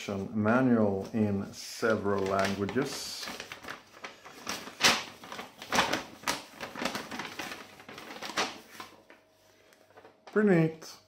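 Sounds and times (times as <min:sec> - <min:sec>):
paper rustling and crackling: 0:00.9 - 0:10.7.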